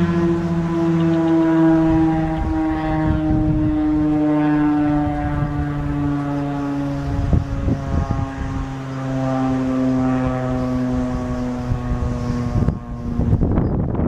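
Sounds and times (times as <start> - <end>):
tornado siren steady tone: 0.0 - 14.0.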